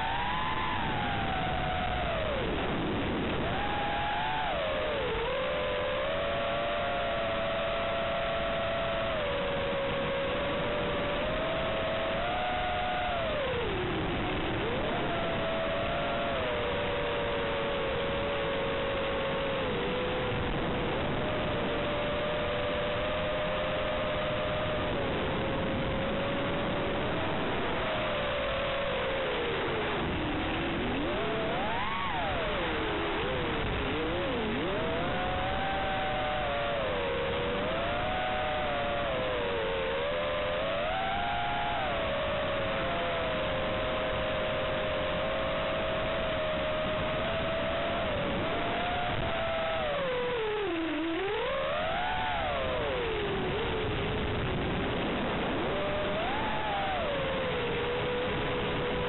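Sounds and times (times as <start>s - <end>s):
drone motors whining: 0.0s - 59.0s
humming tones: 0.0s - 59.0s
static hiss: 0.0s - 59.0s.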